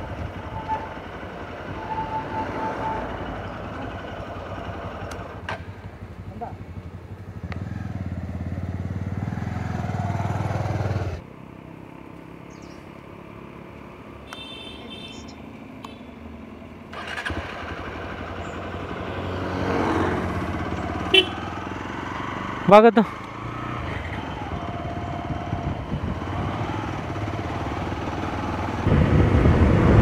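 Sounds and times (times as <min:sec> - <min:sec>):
motorcycle engine running: 0:00.0 - 0:13.6, 0:16.6 - 0:30.0.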